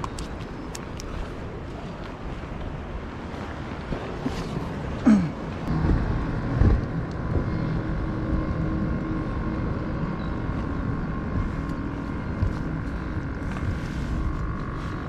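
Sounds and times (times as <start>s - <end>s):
engine droning: 0.0s - 15.0s
wind buffeting microphone: 0.0s - 15.0s.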